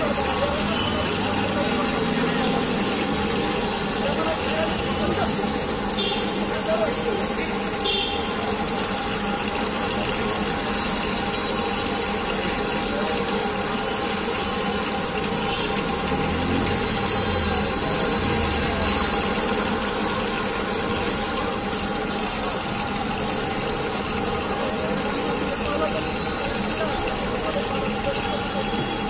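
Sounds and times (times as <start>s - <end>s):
street traffic noise: 0.0s - 29.0s.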